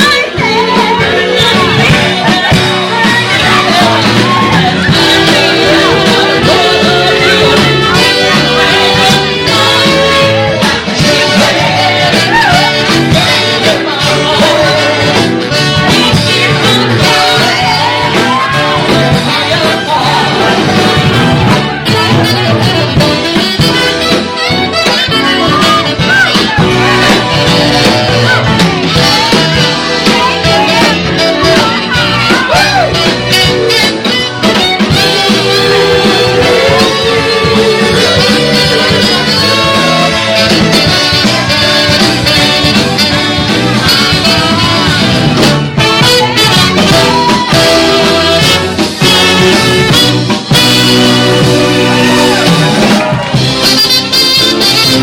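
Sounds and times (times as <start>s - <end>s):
person singing: 0.0s - 53.4s
brass: 0.0s - 55.0s
guitar: 0.0s - 55.0s
live rock band playing: 0.0s - 55.0s.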